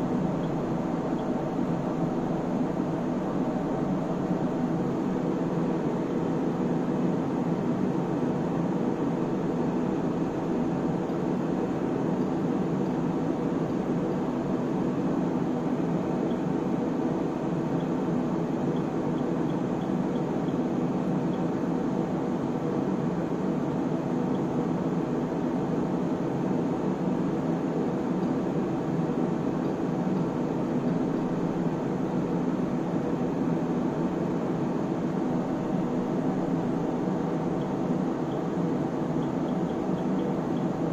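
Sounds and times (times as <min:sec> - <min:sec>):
cooling fans humming: 0:00.0 - 0:40.9.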